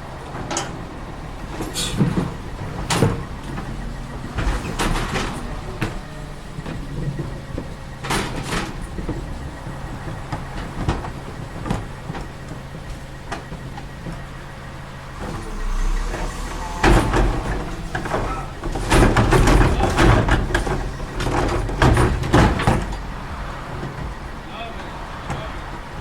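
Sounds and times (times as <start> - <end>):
garbage truck running: 0.0 - 26.0
loud clattering and banging: 0.0 - 26.0.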